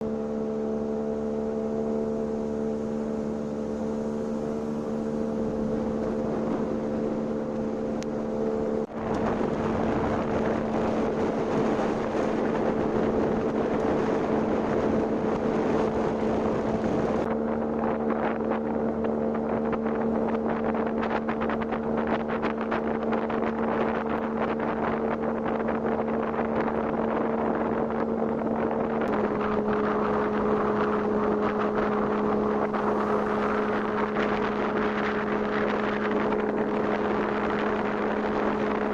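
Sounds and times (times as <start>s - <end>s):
motorboat engine droning: 0.0s - 38.9s
wind and water rushing: 0.0s - 38.9s.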